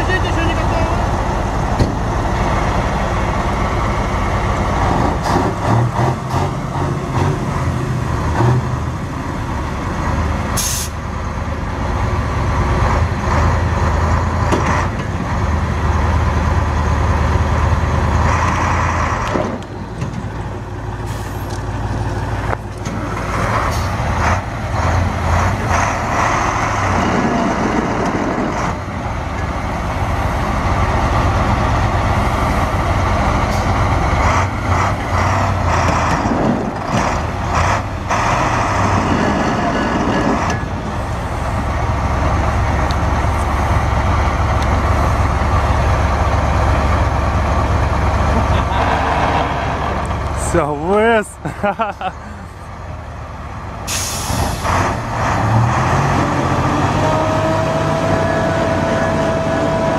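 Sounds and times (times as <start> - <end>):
diesel truck engines straining: 0.0 - 59.9.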